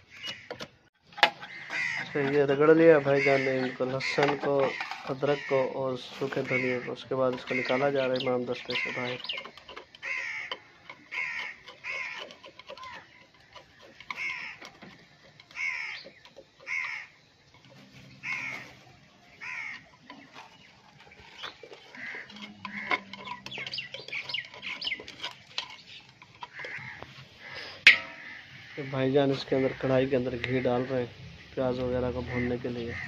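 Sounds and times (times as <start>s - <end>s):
bird calling: 0.0s - 33.0s.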